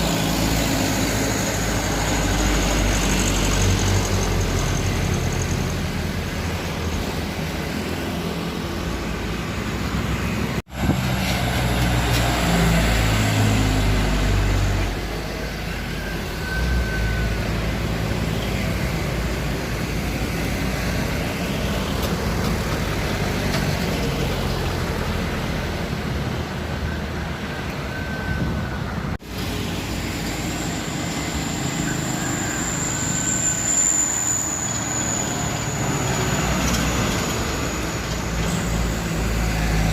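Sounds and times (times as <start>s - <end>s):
heavy truck engines labouring: 0.0s - 39.9s
passing road traffic: 0.0s - 39.9s.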